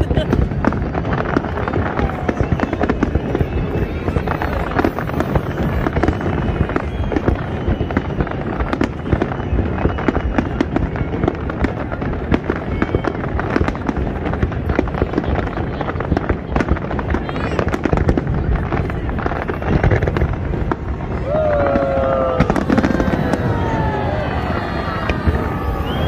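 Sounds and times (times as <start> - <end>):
fireworks popping and crackling: 0.0 - 26.0.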